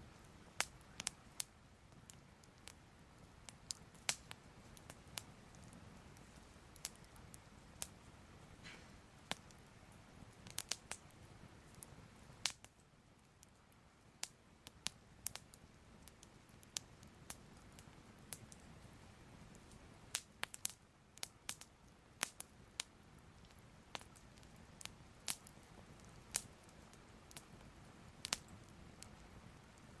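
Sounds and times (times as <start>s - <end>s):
faint low hiss: 0.0s - 30.0s
fire crackling and popping: 0.0s - 30.0s.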